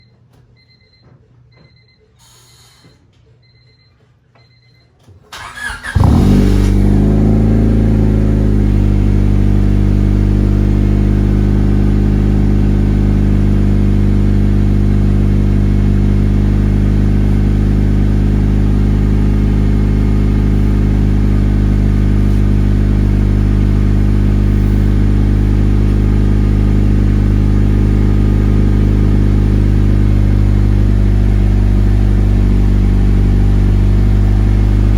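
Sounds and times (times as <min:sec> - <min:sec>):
car engine starting and idling: 0:05.3 - 0:34.9.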